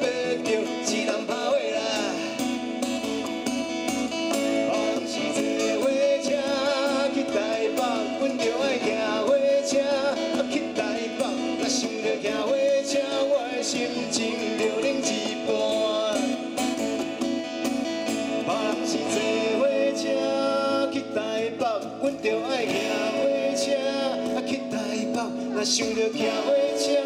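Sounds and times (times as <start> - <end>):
man singing: 0.0 - 3.0, 4.4 - 16.8, 18.3 - 27.0
acoustic guitars strumming: 0.0 - 27.0.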